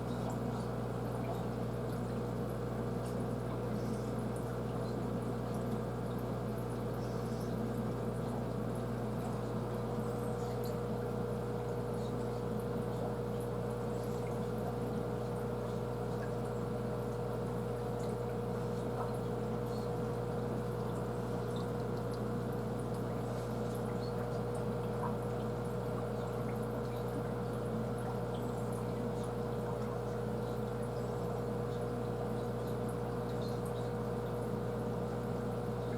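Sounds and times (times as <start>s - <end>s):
aquarium filter hum: 0.0s - 35.9s
bubbles ticking: 0.0s - 35.9s
water trickling: 0.0s - 35.9s.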